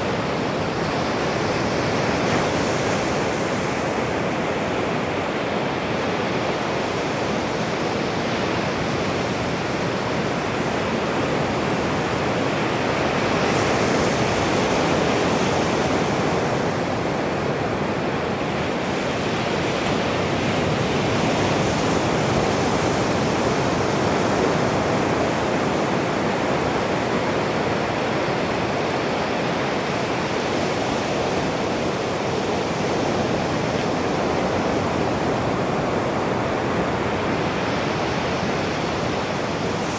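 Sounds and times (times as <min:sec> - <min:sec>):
surf washing up beach: 0:00.0 - 0:39.9.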